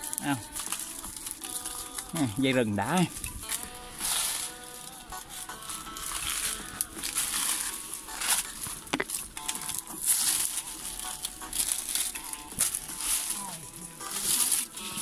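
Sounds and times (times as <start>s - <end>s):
leaves crunching underfoot: 0.0s - 15.0s.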